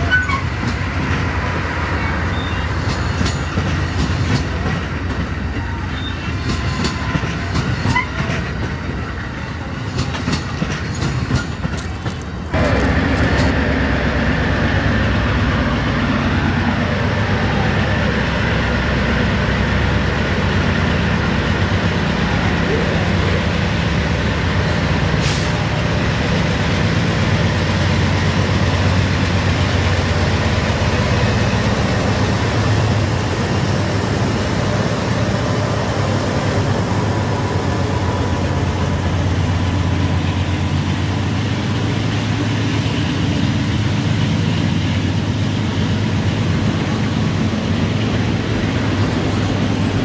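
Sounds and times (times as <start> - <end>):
container cars rolling over rails: 0.0 - 50.0
diesel locomotive engine rumble: 0.0 - 50.0.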